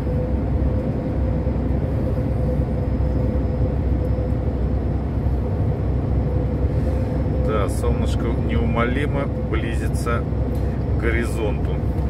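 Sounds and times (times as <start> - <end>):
constant hum: 0.0 - 12.0
truck engine and road rumble: 0.0 - 12.0.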